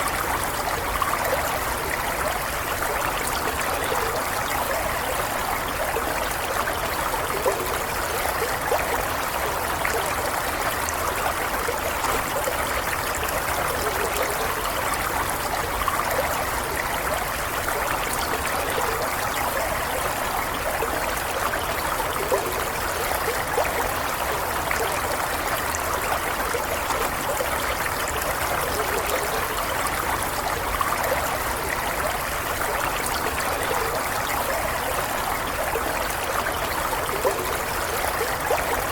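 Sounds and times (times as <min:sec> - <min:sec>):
stream water gurgling: 0:00.0 - 0:38.9.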